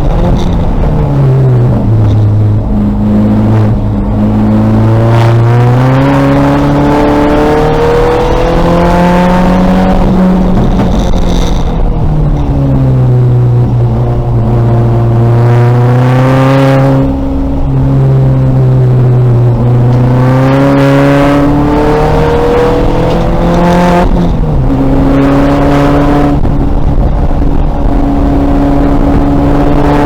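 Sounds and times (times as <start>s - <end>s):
race car engine revving: 0.0s - 30.0s.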